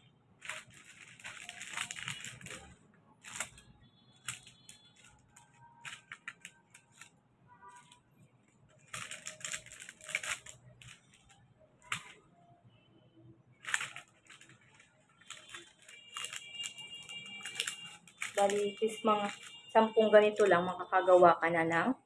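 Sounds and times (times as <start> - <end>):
foil paper crinkling: 0.4 - 12.2, 13.6 - 20.6.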